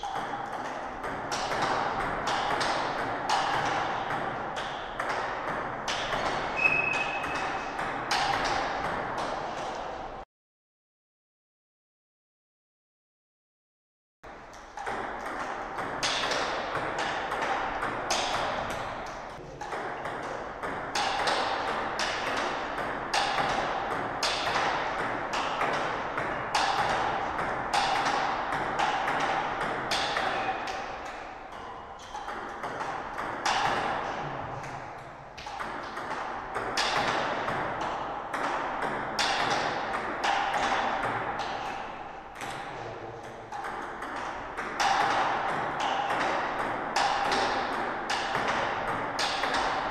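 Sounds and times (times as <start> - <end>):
ping-pong ball bouncing on table: 0.0 - 9.6, 14.5 - 49.9
ping-pong ball hitting paddles: 0.0 - 10.0, 14.3 - 49.9.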